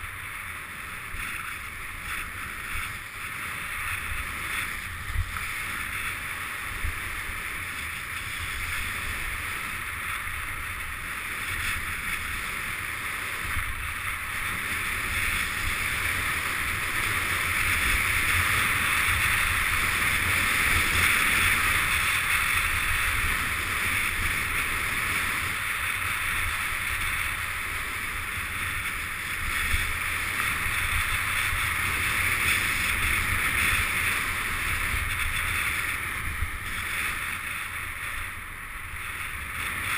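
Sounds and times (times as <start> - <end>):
skis scraping over snow: 0.0 - 39.9
wind buffeting microphone: 1.0 - 39.9.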